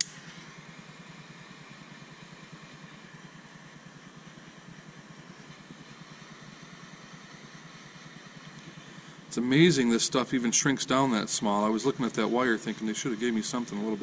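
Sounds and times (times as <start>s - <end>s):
torch flame hissing: 0.0s - 14.0s
low rapid throb: 0.6s - 14.0s.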